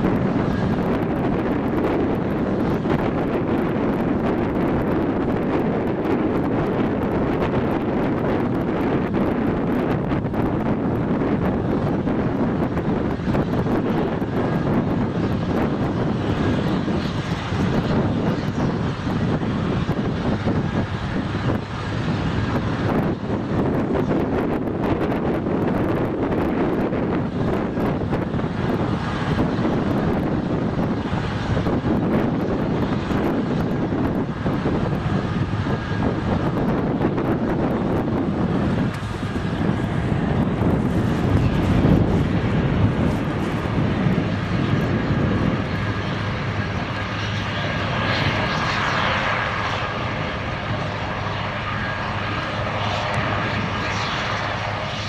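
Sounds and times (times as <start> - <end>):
helicopter turbine whine and rotor: 0.0 - 55.0.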